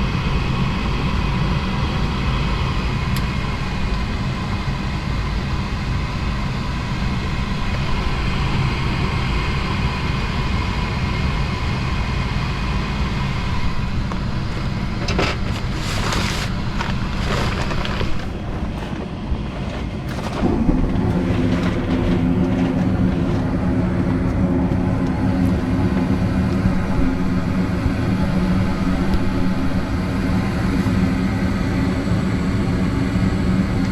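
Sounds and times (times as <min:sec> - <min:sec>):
deeper hum: 0:00.0 - 0:33.9
furnace motor hum: 0:00.0 - 0:33.9.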